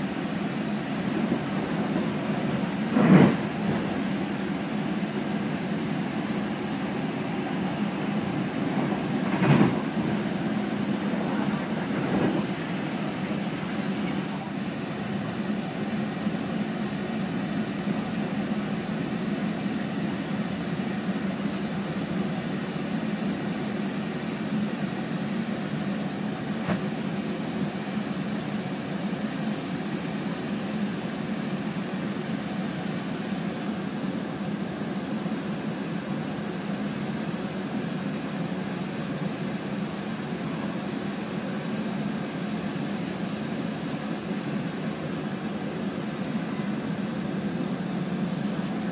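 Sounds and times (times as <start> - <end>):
train interior drone: 0.0 - 48.9.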